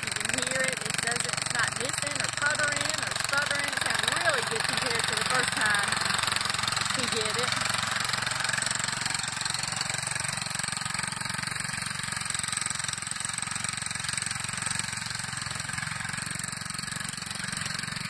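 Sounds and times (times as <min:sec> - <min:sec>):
small tractor engine running: 0:00.0 - 0:18.0.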